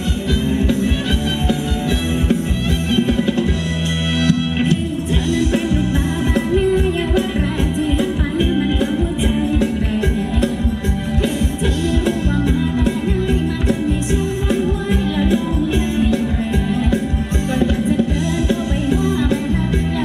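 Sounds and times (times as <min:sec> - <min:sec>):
live band playing dance music: 0:00.0 - 0:20.0
steady drum beat: 0:00.0 - 0:20.0.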